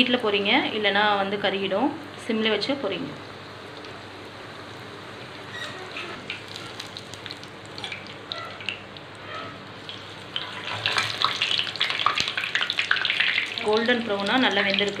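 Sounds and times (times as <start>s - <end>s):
oil sizzling and crackling: 2.0s - 15.0s.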